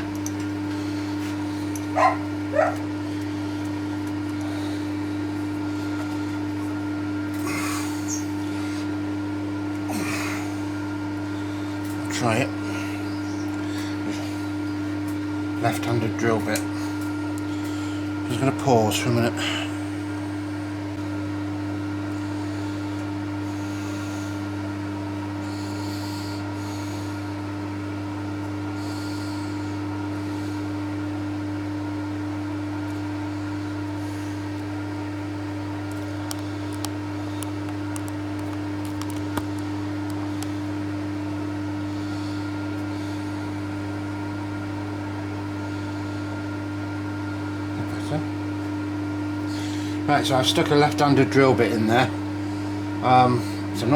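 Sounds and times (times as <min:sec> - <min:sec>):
milling machine motor hum: 0:00.0 - 0:53.9.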